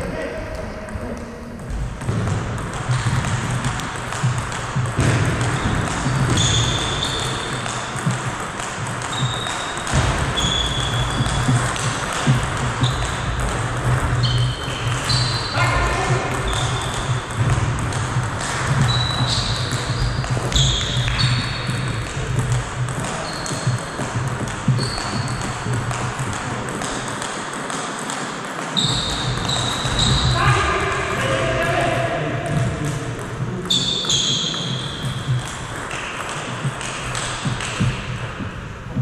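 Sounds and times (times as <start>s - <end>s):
table tennis ball pinging: 1.5s - 31.2s, 32.4s - 39.0s
shoes squeaking: 1.6s - 27.1s, 28.7s - 30.9s, 33.2s - 39.0s.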